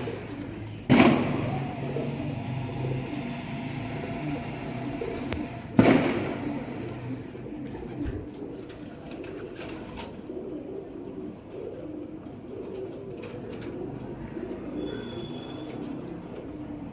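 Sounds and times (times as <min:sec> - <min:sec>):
pigeons cooing: 0:00.0 - 0:16.9.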